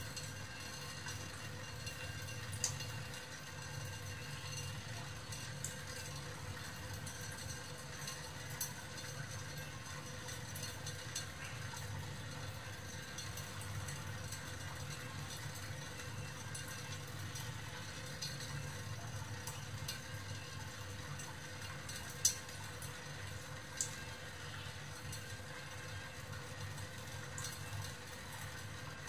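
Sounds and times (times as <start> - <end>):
faint steady hum: 0.0 - 29.0
water trickling into steel sink: 0.0 - 29.0.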